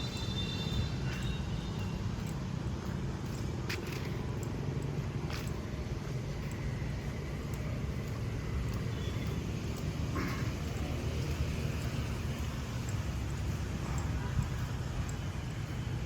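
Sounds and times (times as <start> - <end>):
motorbikes and cars passing: 0.0 - 16.0.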